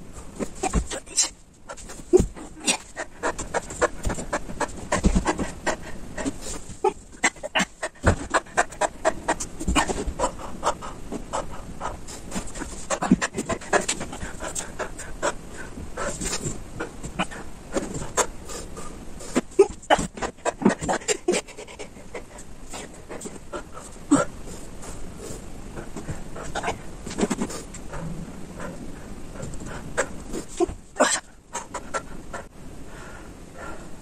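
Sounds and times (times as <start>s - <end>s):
man panting: 0.2s - 34.0s.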